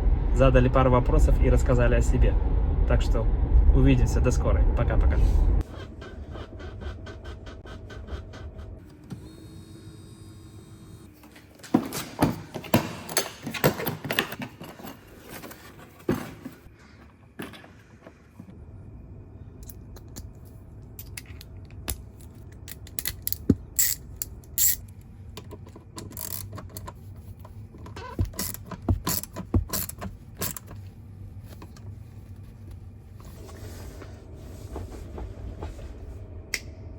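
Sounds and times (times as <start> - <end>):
low hum in car cabin: 0.0 - 11.2, 18.4 - 36.9.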